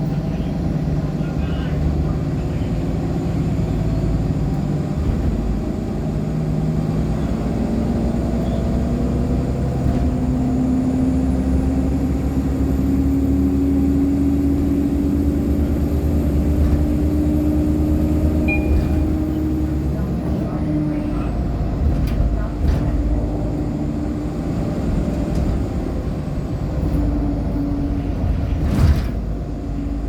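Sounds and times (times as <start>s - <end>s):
bus drive tone rising: 0.0s - 30.0s.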